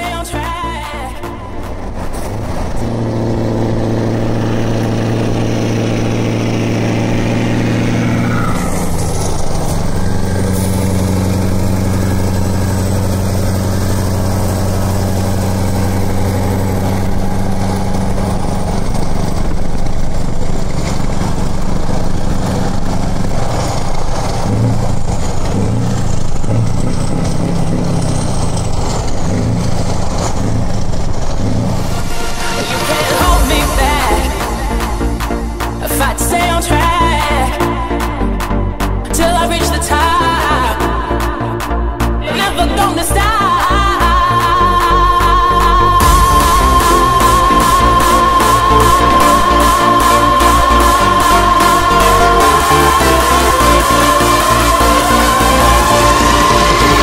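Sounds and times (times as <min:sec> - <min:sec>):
deep truck engine note: 0:00.0 - 0:57.0
road noise: 0:00.0 - 0:57.0.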